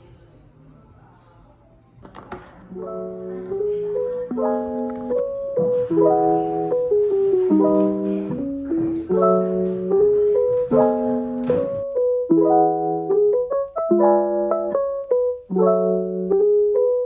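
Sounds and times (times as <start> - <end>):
gentle piano piece: 2.7 - 17.0.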